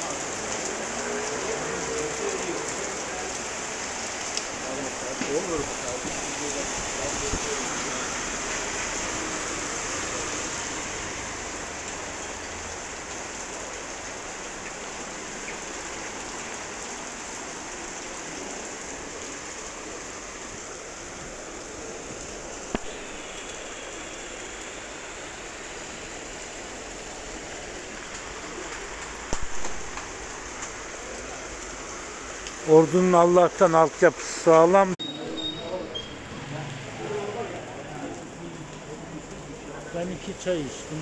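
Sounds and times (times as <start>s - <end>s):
rain on wet pavement: 0.0s - 41.0s.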